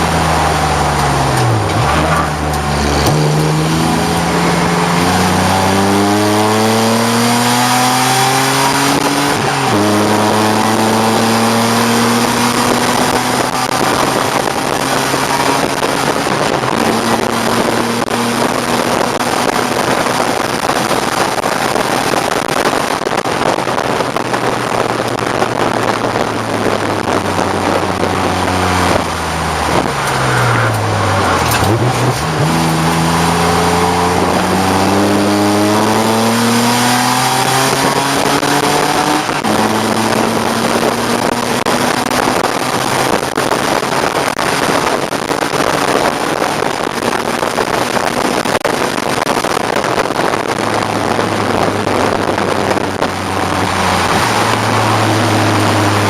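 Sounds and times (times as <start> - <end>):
car engine at racing speed: 0.0 - 56.0
rush of noise: 0.0 - 56.0.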